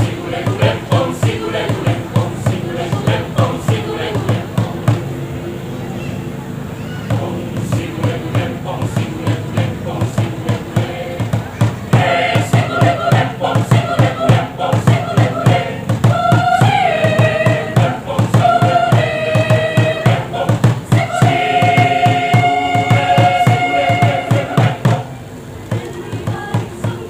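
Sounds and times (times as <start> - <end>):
accompaniment with low beat: 0.0 - 5.4, 7.1 - 27.0
choir singing in harmony: 0.0 - 5.7, 7.1 - 27.0.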